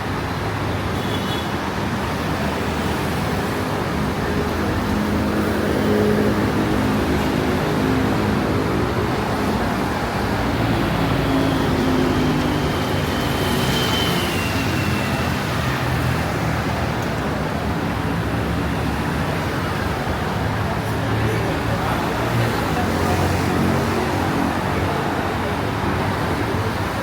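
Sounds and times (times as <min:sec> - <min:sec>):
road traffic hum: 0:00.0 - 0:27.0.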